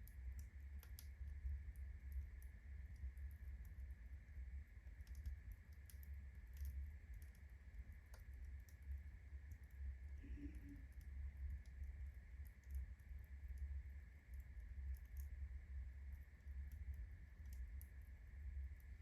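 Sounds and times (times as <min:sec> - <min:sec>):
low rumble of flame: 0:00.0 - 0:19.0.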